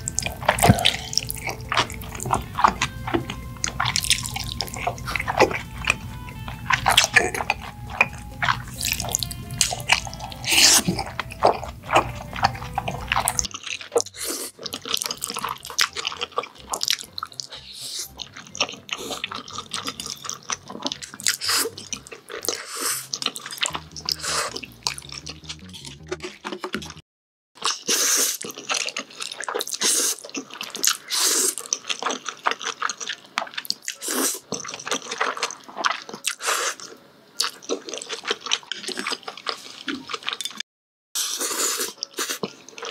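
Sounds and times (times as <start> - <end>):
noodles being slurped and chewed: 0.0 - 27.0, 27.6 - 40.6, 41.2 - 42.9.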